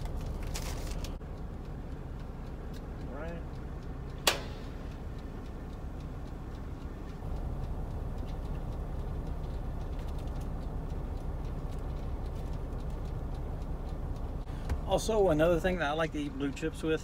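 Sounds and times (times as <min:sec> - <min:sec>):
truck engine idling: 0:00.0 - 0:17.0
faint ticks: 0:01.0 - 0:14.8.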